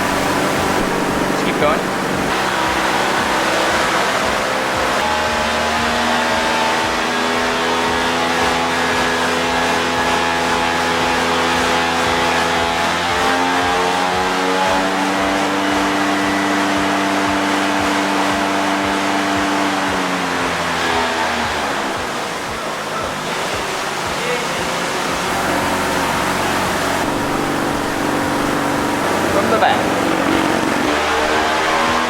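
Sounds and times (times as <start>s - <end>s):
drone propellers humming: 0.0s - 32.0s.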